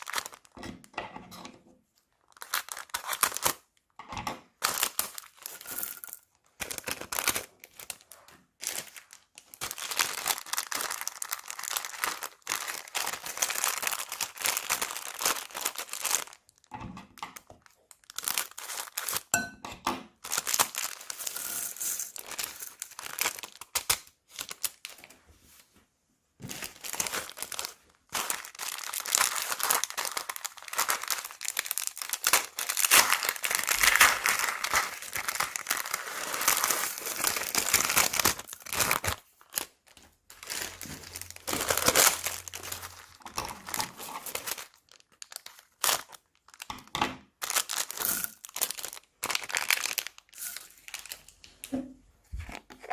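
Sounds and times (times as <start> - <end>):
plastic bags crinkling: 0.0 - 0.6, 2.1 - 3.9, 4.5 - 19.3, 20.2 - 25.1, 26.4 - 51.7.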